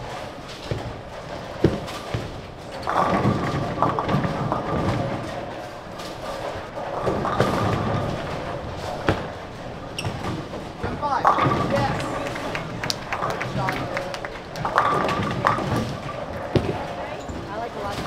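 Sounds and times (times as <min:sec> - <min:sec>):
balls rolling on other lanes: 0:00.0 - 0:18.0
bowling ball rolling rumble: 0:00.0 - 0:18.0.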